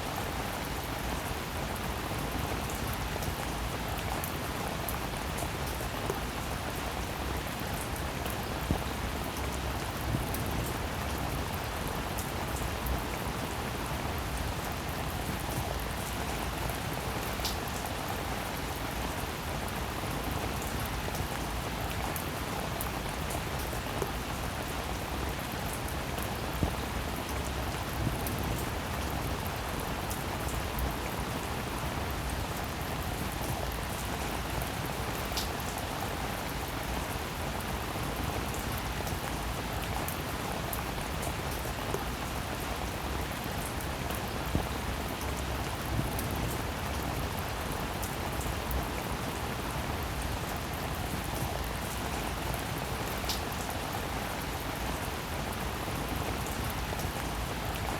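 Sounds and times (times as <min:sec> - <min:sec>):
rain drops on hard surface: 0:00.0 - 0:57.9.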